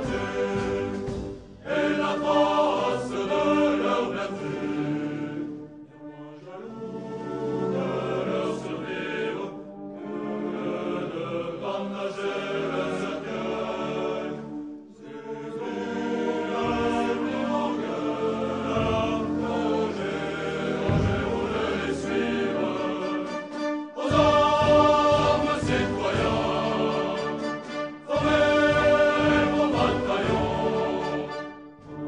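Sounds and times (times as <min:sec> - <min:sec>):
slow choral singing: 0:00.0 - 0:32.0.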